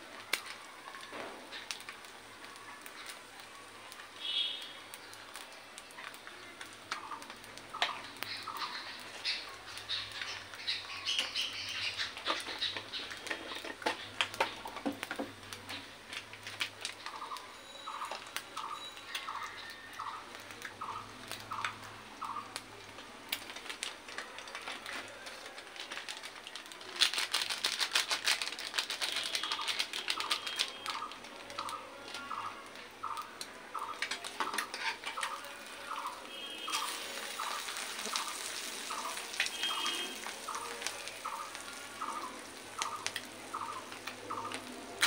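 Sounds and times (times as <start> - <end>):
egg frying with crackling pops: 0.0 - 45.0.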